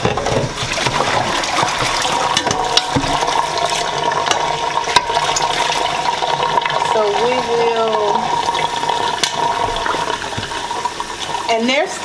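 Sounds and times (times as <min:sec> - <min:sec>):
faucet water filling metal pot: 0:00.0 - 0:12.0.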